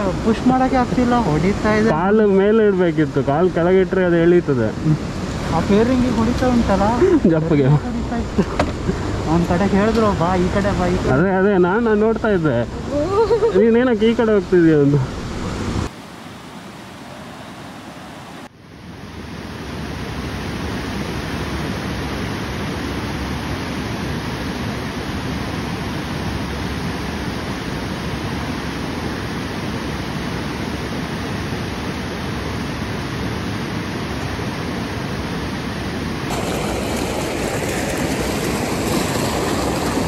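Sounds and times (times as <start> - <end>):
fast-flowing stream rushing: 0.0 - 18.5, 19.3 - 40.0.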